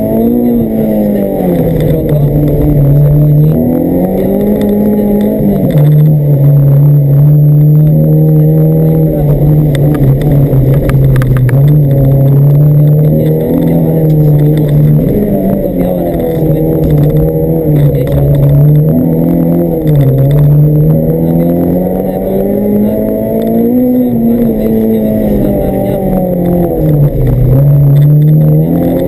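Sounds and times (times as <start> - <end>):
rally car engine revving: 0.0 - 29.0.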